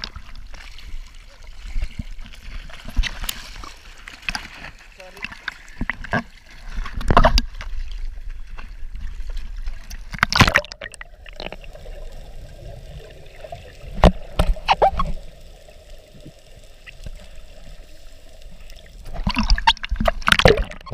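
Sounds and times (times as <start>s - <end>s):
water sloshing and gurgling: 0.0s - 20.9s
water splashing: 0.0s - 20.9s.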